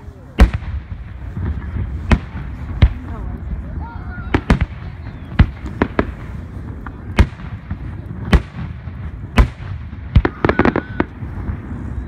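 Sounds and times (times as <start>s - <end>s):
fireworks bangs: 0.2s - 12.0s.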